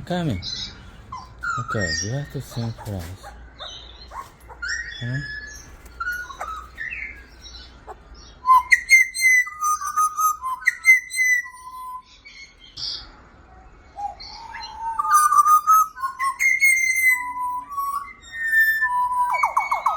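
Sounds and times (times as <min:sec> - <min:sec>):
birds whistling flute-like notes: 0:00.0 - 0:19.9.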